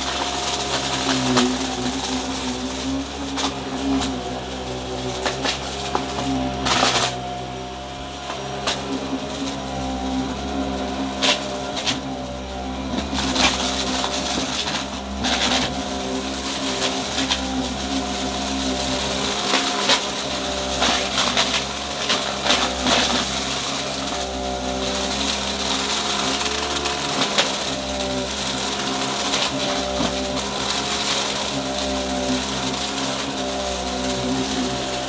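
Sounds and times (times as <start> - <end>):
debris crackling in vacuum: 0.0 - 35.0
vacuum cleaner running: 0.0 - 35.0.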